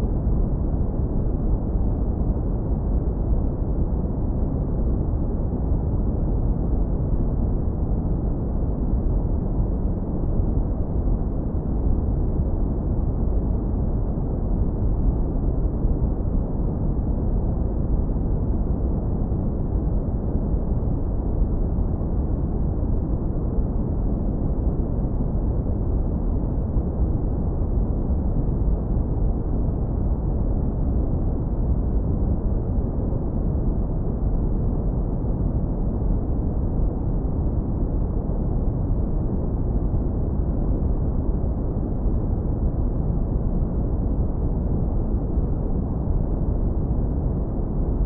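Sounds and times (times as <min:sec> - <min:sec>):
deep brown noise rumble: 0:00.0 - 0:48.0.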